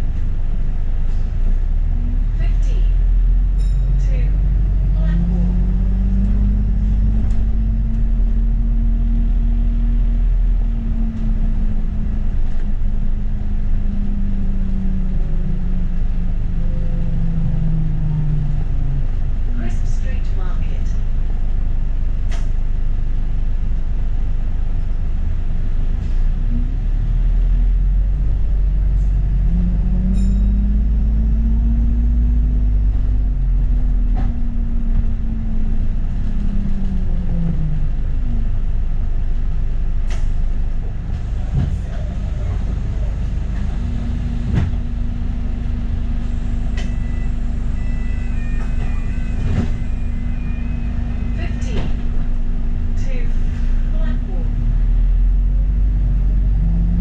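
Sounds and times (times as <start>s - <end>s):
bus drive whine: 0.0s - 57.0s
bus engine and road rumble: 0.0s - 57.0s.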